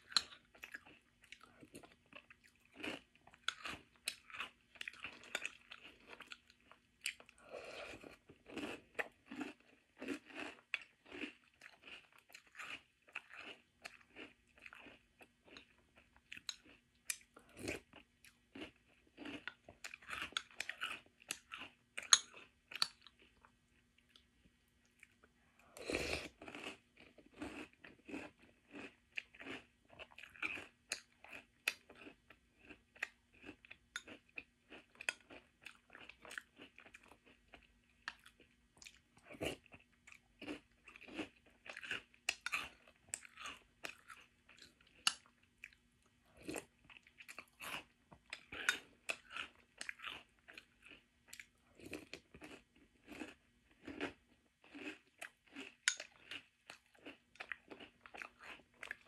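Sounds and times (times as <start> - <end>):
chewing crunchy cereal: 0.0 - 59.0.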